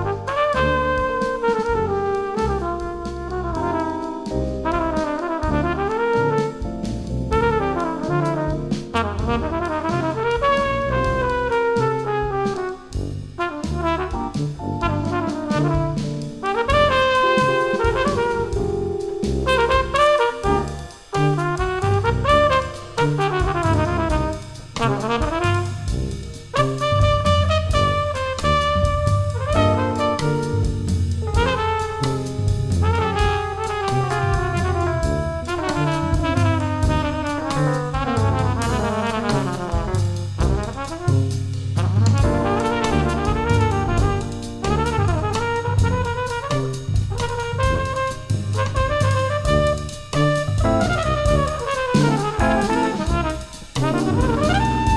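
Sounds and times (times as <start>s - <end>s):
drum kit keeping time: 0.0s - 54.9s
trumpets and baritone saxophone: 0.0s - 54.9s
tuba bass: 0.0s - 54.9s.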